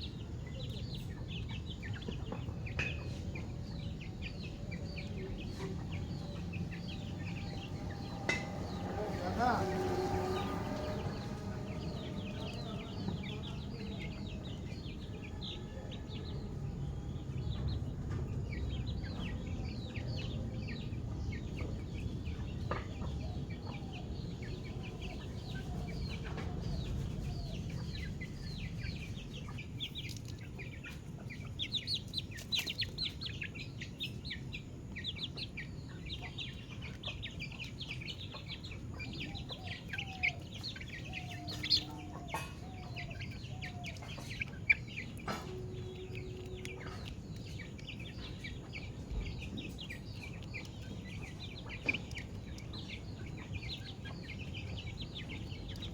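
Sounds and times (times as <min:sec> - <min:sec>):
chicks peeping: 0:00.0 - 0:55.9
steady low rumble: 0:00.0 - 0:55.9.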